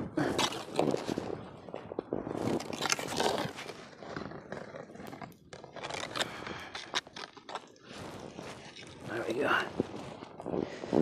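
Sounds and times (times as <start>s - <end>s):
ice crunching and scraping: 0.0s - 11.0s.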